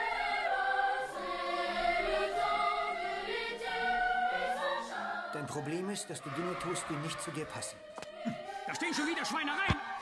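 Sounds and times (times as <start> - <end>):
boys' choir singing: 0.0 - 10.0.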